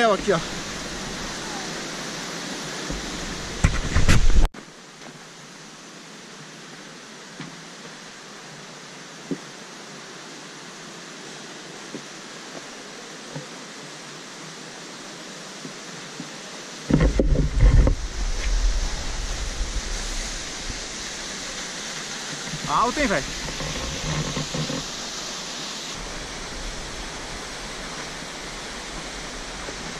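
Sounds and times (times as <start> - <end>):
waterfall rushing hiss: 0.0 - 29.9.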